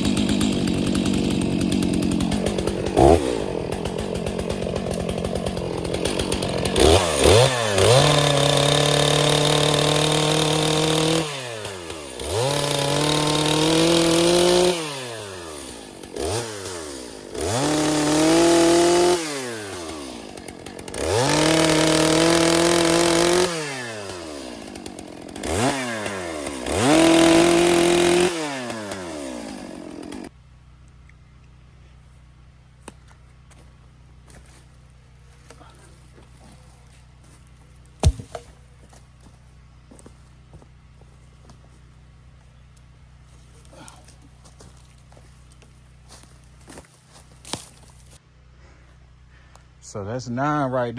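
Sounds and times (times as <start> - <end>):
chainsaw revving and idling: 0.0 - 30.4, 34.8 - 48.2.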